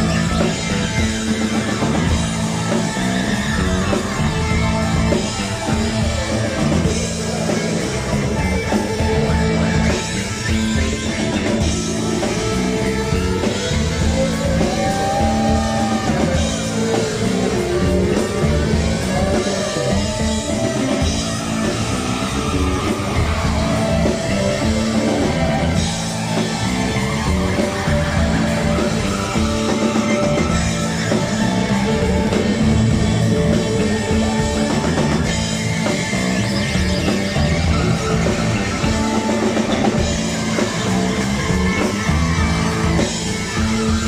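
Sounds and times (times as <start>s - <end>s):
bass line: 0.0s - 44.0s
drum kit: 0.0s - 44.0s
electric guitar: 0.0s - 44.0s
keyboards: 0.0s - 44.0s.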